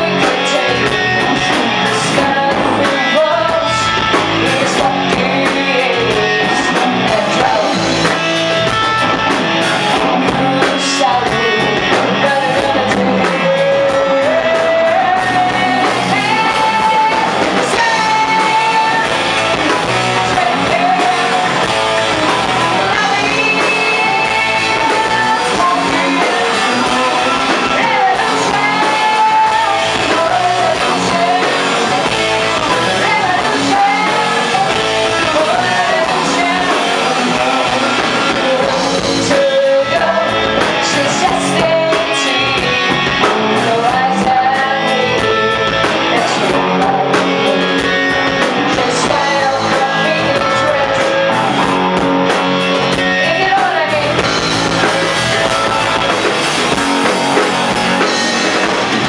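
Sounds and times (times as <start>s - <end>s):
woman singing: 0.0s - 8.2s, 9.8s - 51.9s, 52.9s - 56.0s
live rock band playing: 0.0s - 59.0s.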